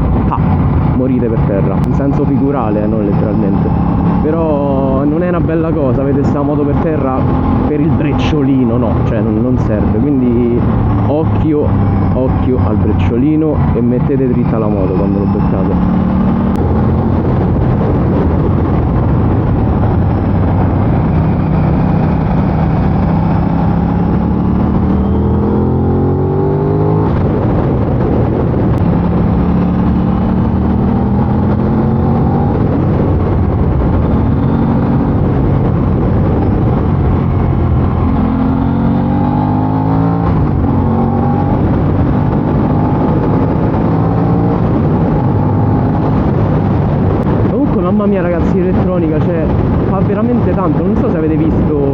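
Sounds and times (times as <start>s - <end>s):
motorcycle engine revving: 0.0s - 47.5s.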